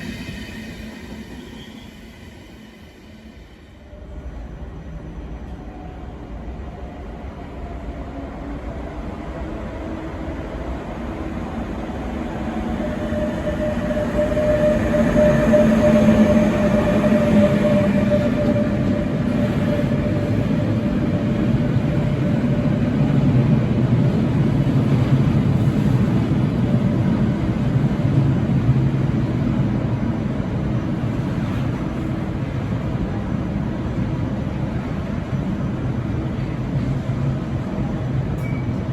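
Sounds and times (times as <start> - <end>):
train rumbling past: 0.0 - 38.9
train whine: 0.0 - 38.9.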